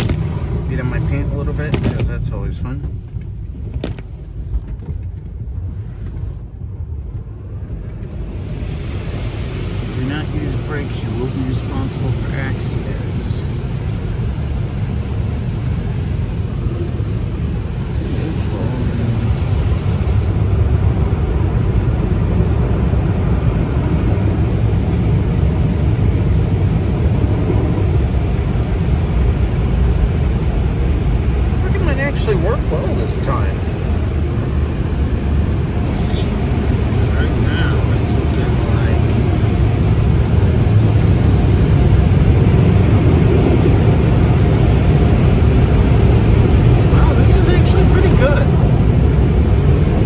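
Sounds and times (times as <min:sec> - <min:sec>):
car wash rushing and rumbling: 0:00.0 - 0:50.0.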